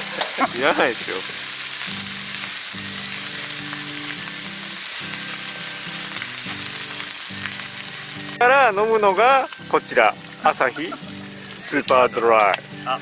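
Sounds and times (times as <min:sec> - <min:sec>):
steak sizzling in a skillet: 0:00.0 - 0:13.0.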